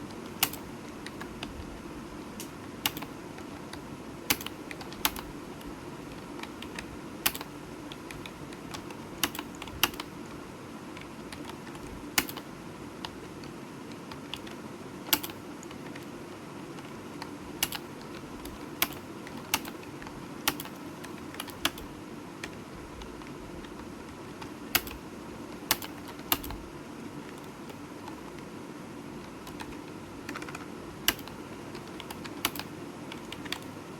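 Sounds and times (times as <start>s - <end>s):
keyboard typing clicks: 0.0s - 1.6s, 2.4s - 10.1s, 10.9s - 16.1s, 16.7s - 25.0s, 25.6s - 26.6s, 29.2s - 33.8s
low background hum: 0.0s - 33.9s.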